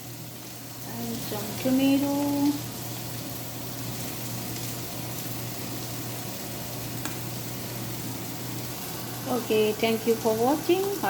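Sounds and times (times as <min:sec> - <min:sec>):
curry simmering and sizzling: 0:00.0 - 0:11.0.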